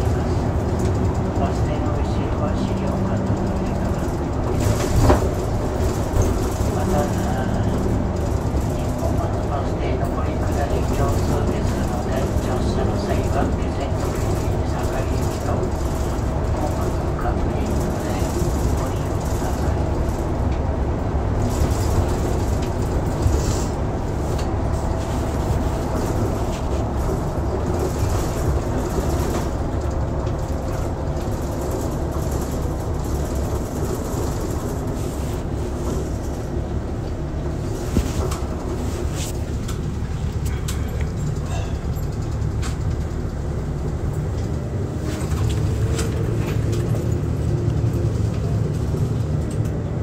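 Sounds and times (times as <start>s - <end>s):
bus engine and road rumble: 0.0s - 50.0s.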